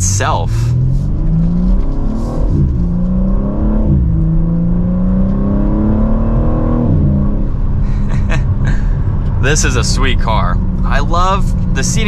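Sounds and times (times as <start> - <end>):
car engine accelerating through gears: 0.0 - 12.0.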